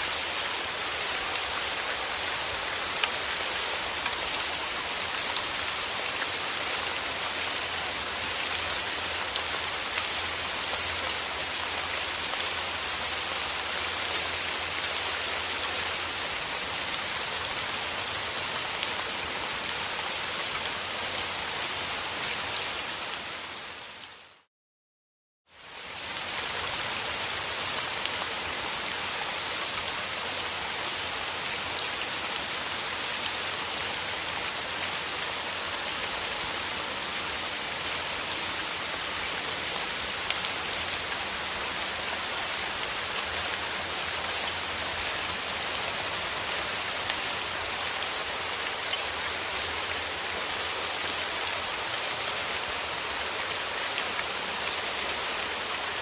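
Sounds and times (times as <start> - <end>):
rain falling: 0.0 - 24.5, 25.6 - 56.0.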